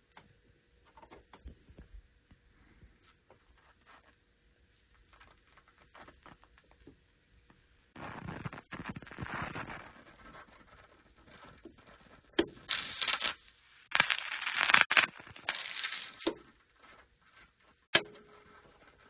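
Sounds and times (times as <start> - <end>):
scratchy crackling noise: 3.4 - 19.0.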